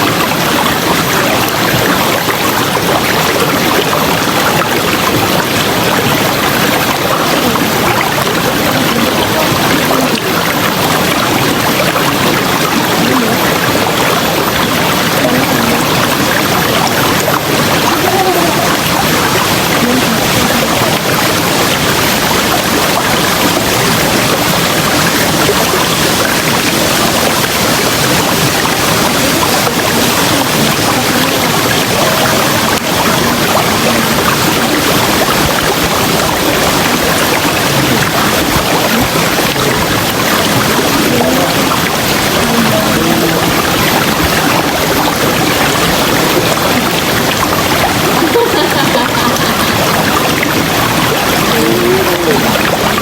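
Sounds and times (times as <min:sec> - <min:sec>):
faint water gurgles: 0:00.0 - 0:53.0
river water rushing: 0:00.0 - 0:53.0.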